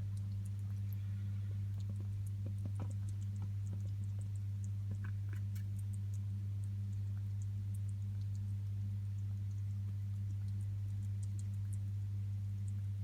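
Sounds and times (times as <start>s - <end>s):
faint small ticks and clicks: 0.0s - 13.0s
low electrical hum: 0.0s - 13.0s.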